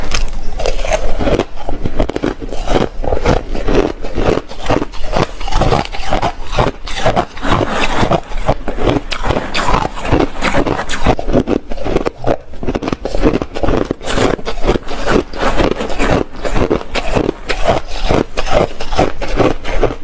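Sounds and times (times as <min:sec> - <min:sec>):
person crunching ice: 0:00.0 - 0:20.0.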